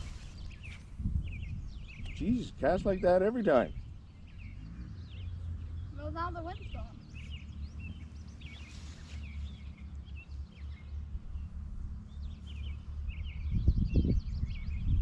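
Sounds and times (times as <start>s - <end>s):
songbirds chirping and trilling: 0.0s - 15.0s
steady low rumble: 0.0s - 15.0s.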